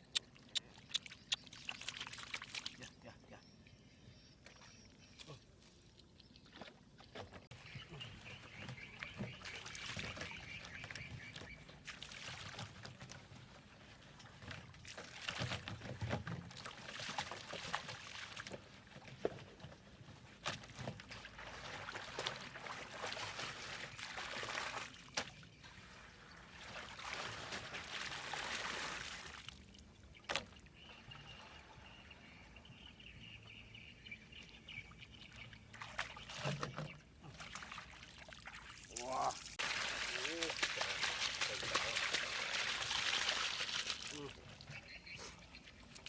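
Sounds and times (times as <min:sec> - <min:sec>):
water sloshing and splashing: 0:00.0 - 0:03.0, 0:04.4 - 0:32.1, 0:34.3 - 0:46.0.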